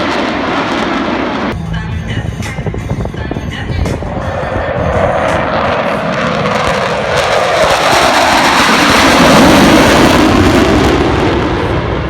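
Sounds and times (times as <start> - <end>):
jet flying past: 0.0 - 1.6, 3.8 - 12.0.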